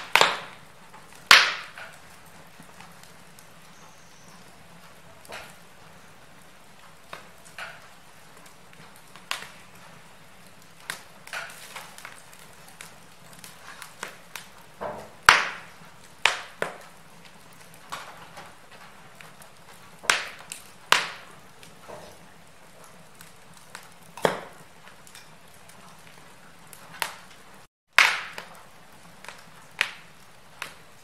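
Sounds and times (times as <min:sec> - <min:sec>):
fire pops and snaps: 0:00.0 - 0:31.0
wood fire crackling: 0:00.0 - 0:31.0.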